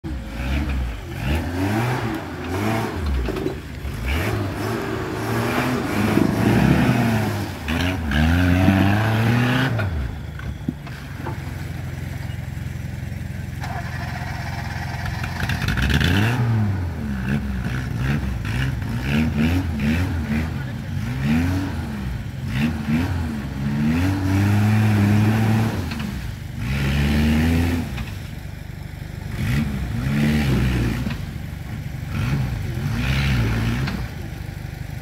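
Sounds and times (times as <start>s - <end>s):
off-road engine revving: 0.0s - 35.0s.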